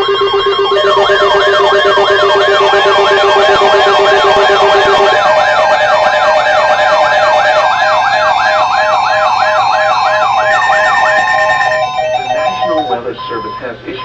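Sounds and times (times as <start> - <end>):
pulsing tone: 0.0 - 13.7
sweeping siren tone: 0.0 - 13.7
steady alarm tones: 0.0 - 14.0.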